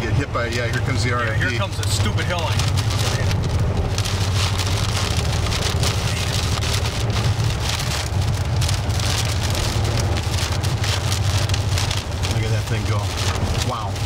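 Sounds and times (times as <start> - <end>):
car low rumble: 0.0 - 14.0
rain pelting car: 0.0 - 14.0.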